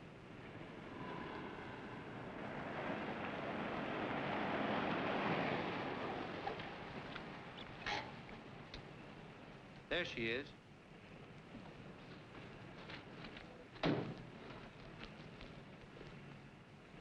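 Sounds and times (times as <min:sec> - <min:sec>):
car engine and tyre noise: 0:00.0 - 0:09.9, 0:10.8 - 0:17.0.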